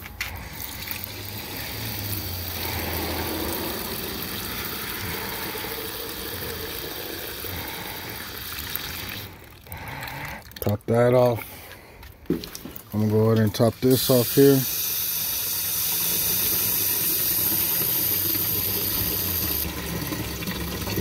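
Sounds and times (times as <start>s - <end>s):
water pouring from hose nozzle: 0.0s - 10.8s, 12.4s - 21.0s.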